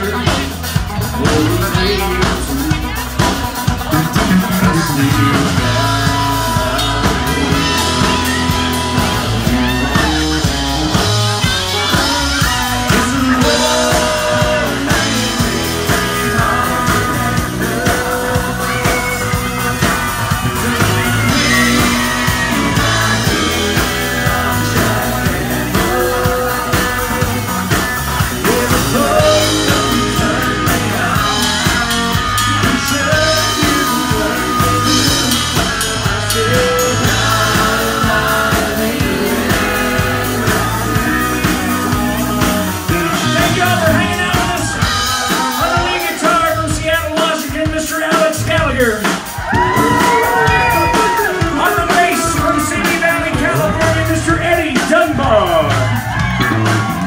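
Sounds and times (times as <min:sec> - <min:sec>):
bass guitar: 0:00.0 - 0:57.0
drum kit: 0:00.0 - 0:57.0
electric guitars: 0:00.0 - 0:57.0
person singing: 0:00.0 - 0:57.0.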